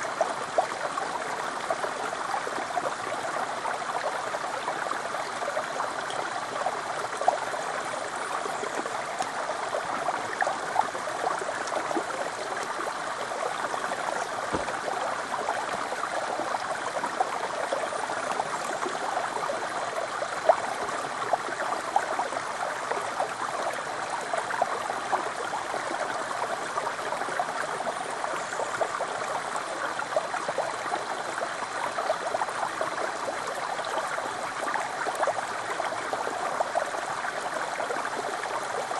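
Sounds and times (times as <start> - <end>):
stream babbling over rock: 0.0 - 38.9.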